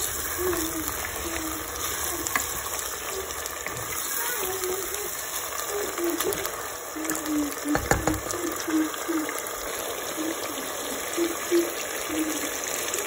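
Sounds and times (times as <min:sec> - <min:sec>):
food sizzling in pot: 0:00.0 - 0:13.0.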